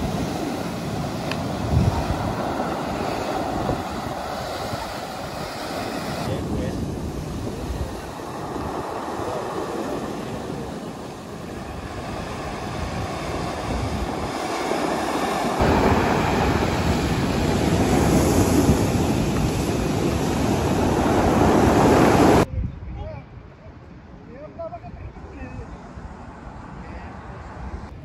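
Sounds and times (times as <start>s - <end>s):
ocean surf: 0.0s - 22.5s
wind buffeting microphone: 0.0s - 28.0s.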